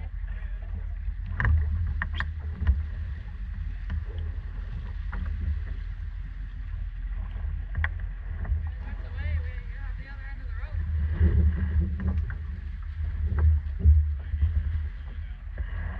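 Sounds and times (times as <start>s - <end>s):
boat engine low rumble: 0.0s - 15.9s.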